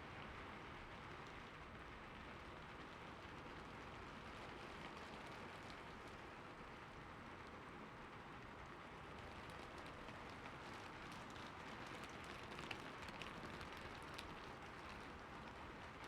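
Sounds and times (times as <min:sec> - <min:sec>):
rain on a roof: 0:00.0 - 0:16.0.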